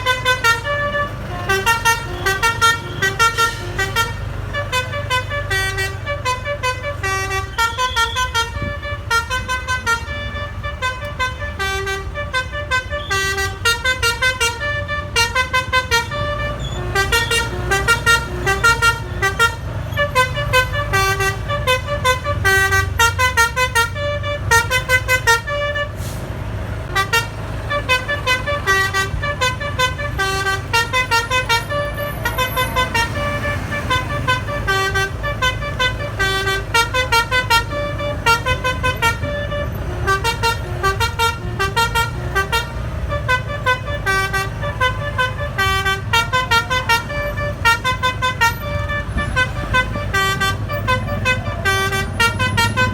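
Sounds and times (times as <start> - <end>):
low engine rumble: 0.0 - 52.9
musical bus horn melody: 0.0 - 52.9.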